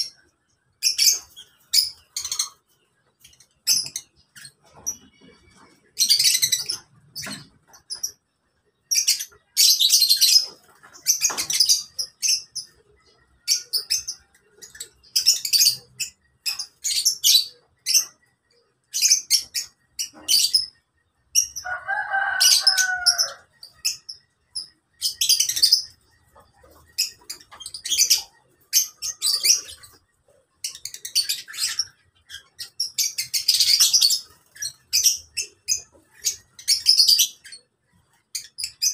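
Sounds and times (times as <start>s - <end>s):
lovebirds chattering shrieks: 0.0s - 38.9s.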